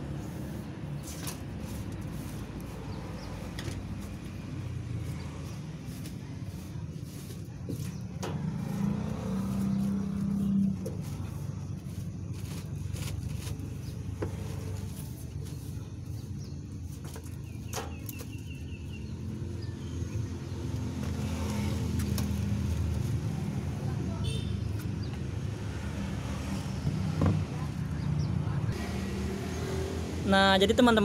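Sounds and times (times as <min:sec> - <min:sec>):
low rumble of road traffic: 0:00.0 - 0:31.0.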